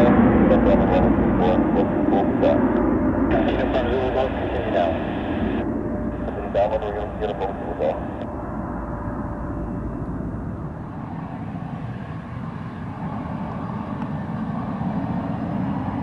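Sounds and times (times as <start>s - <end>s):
jet engines running: 0.0s - 16.0s
propeller aircraft droning: 0.0s - 16.0s.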